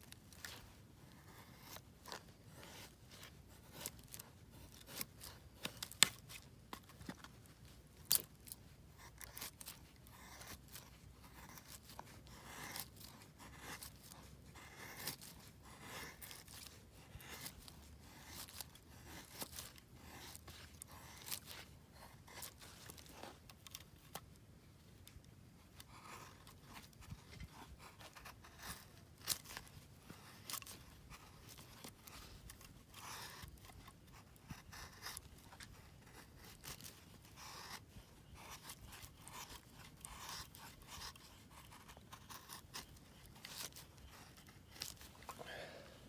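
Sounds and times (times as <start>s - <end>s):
faint rustling and scraping: 0.0s - 46.0s.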